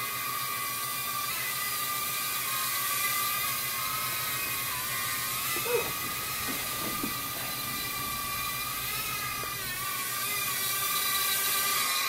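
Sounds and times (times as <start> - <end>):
drone propellers whining: 0.9 - 11.8.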